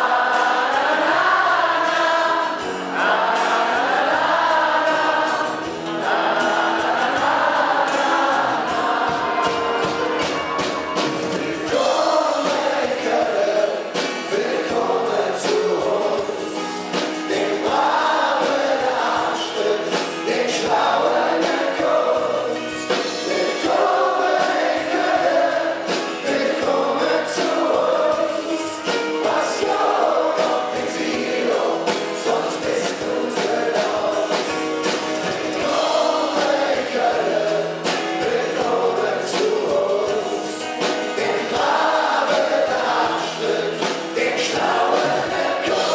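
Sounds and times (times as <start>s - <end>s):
men singing in chorus: 0.0s - 9.6s, 11.2s - 45.9s
acoustic guitars: 0.0s - 45.9s
bass guitar: 0.0s - 45.9s
drums: 0.0s - 45.9s.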